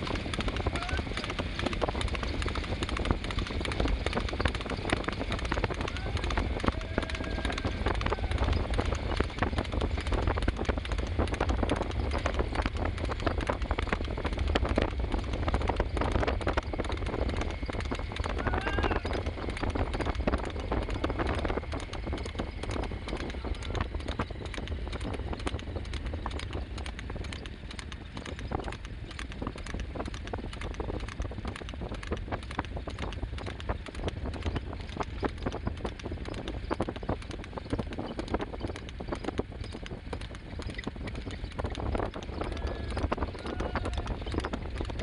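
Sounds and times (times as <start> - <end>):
cart wheels low rumble: 0.0 - 45.0
horse hooves on asphalt: 0.0 - 45.0.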